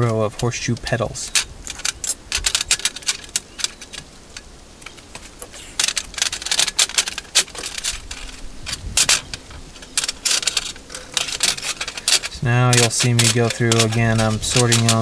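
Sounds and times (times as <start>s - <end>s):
steel horseshoes clinking: 1.2s - 15.0s.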